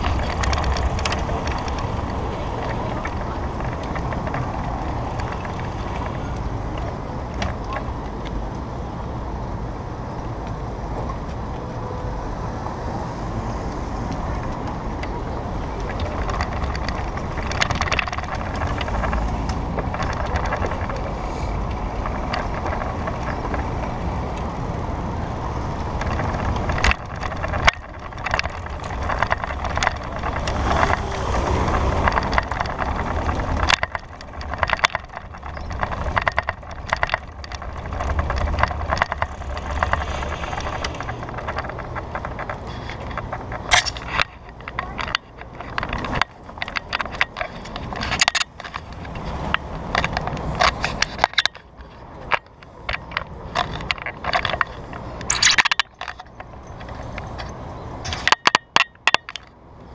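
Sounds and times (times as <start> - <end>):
bicycle tyre noise: 0.0 - 8.6, 12.9 - 58.3
bike rattling over rough asphalt: 0.0 - 11.6, 12.5 - 59.6.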